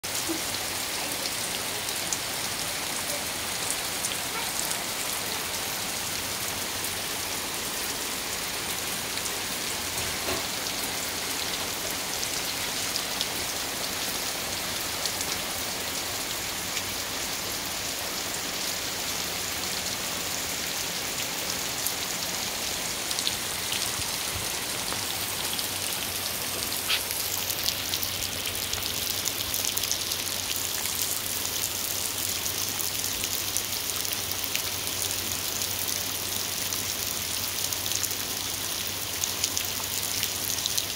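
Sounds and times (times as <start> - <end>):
heavy rain on leaves: 0.0 - 40.9.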